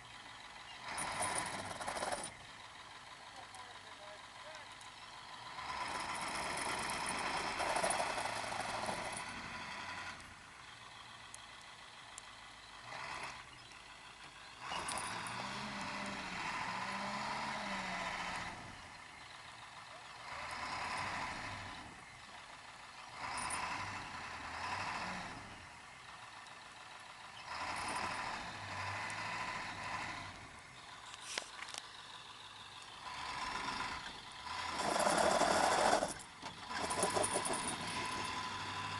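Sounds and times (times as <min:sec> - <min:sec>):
truck engine revving: 0:00.0 - 0:38.9
wheels spinning in snow: 0:00.0 - 0:38.9.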